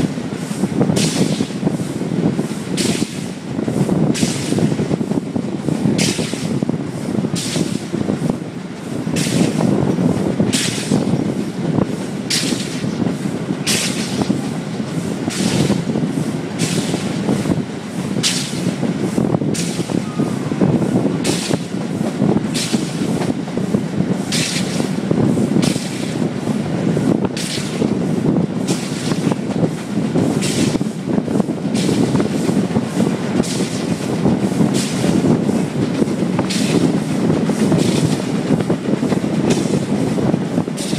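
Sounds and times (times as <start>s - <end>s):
carriages rumbling on rails: 0.0s - 40.9s
steam locomotive exhaust chuffing: 0.0s - 40.9s.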